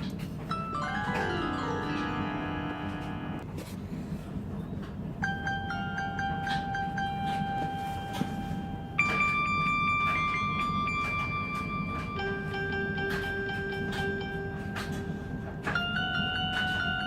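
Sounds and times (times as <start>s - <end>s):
ringtone with long steady tones: 0.5s - 3.5s, 5.2s - 17.0s.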